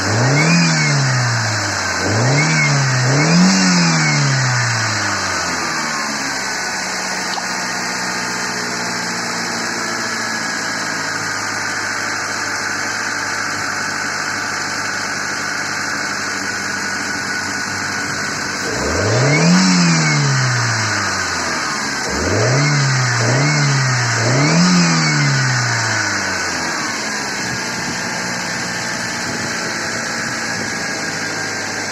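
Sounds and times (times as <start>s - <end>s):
car engine idling and revving: 0.0s - 31.9s.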